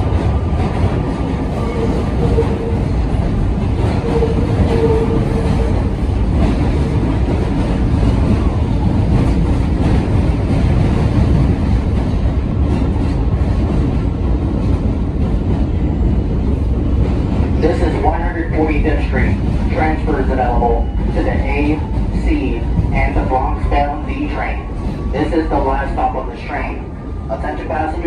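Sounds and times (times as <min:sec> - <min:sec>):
subway wheels rumbling on rails: 0:00.0 - 0:28.0.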